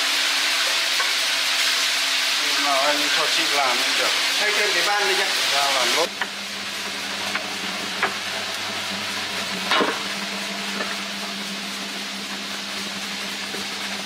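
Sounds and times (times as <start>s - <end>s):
machine hum with hissing scraping: 0.0s - 14.0s.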